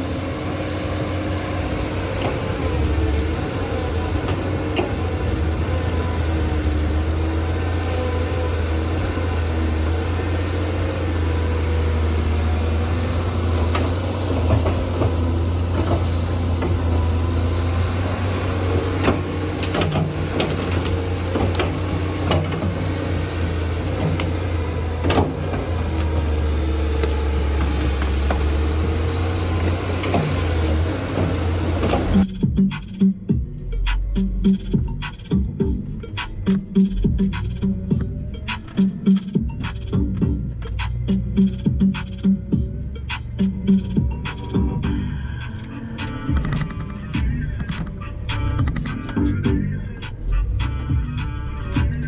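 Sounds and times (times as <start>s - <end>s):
tractor engine humming: 0.0s - 52.0s.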